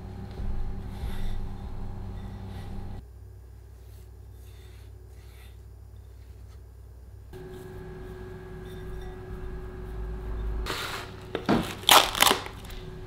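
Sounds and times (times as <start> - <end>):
hands kneading soft dough: 0.0 - 13.0
low steady hum: 0.0 - 13.0.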